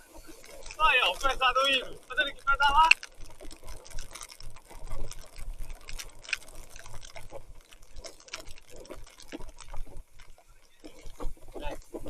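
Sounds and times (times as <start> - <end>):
bike tyres churning through mud: 0.0 - 12.0.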